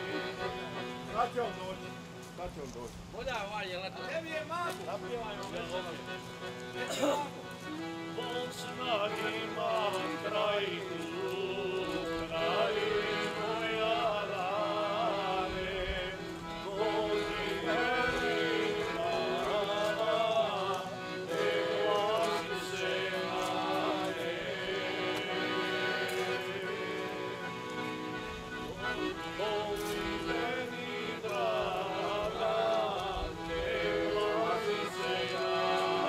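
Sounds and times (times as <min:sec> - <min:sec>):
men singing folk song: 0:00.0 - 0:01.3, 0:07.0 - 0:36.0.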